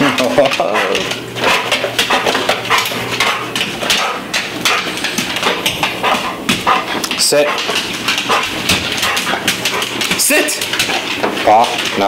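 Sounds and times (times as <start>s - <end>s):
dog claws clicking on wood floor: 0.0s - 12.0s.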